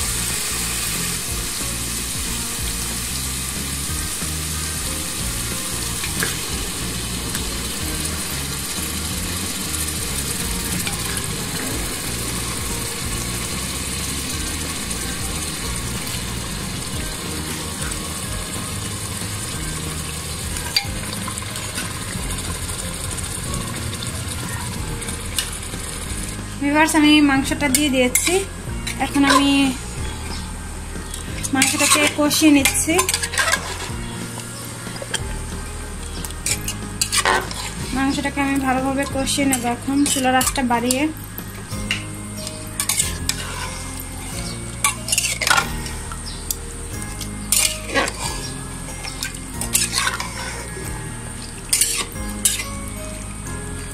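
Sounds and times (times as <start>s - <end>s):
oil sizzling in a pot: 0.0s - 53.9s.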